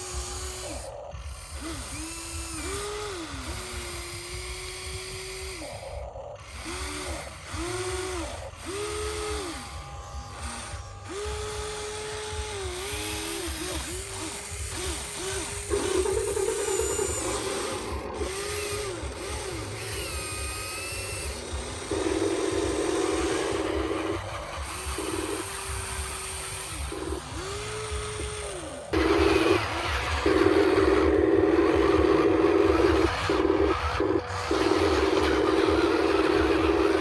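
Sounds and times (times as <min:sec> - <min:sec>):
toy gear motors whining: 0:00.0 - 0:37.0.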